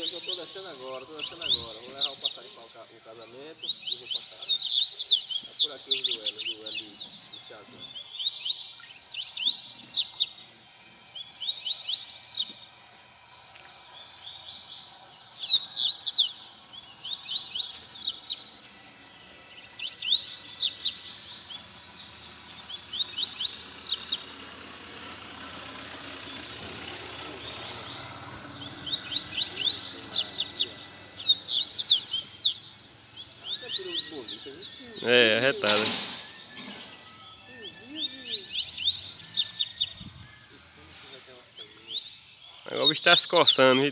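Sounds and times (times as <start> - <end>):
birds singing high sweeping notes: 0.0 - 43.9.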